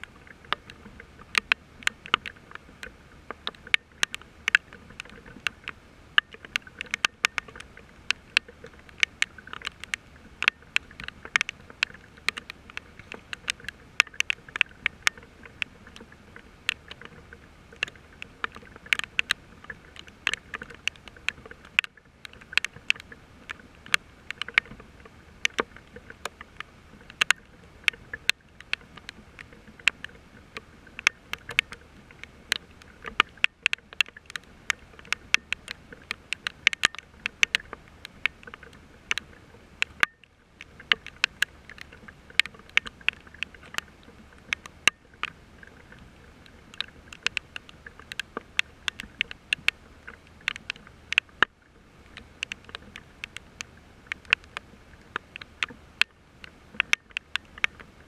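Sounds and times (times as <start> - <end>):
faint hiss of rain: 0.0 - 58.0
large raindrops tapping: 0.0 - 58.0.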